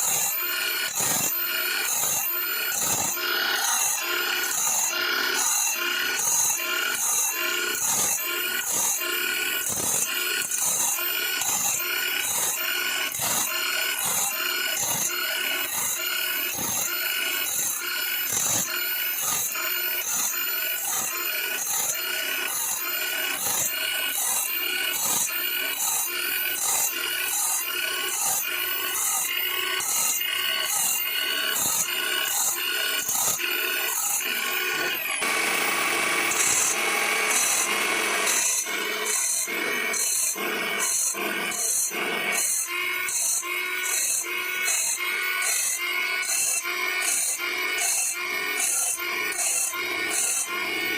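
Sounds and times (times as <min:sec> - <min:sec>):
grinding stone sharpening blade: 0:00.0 - 0:50.9.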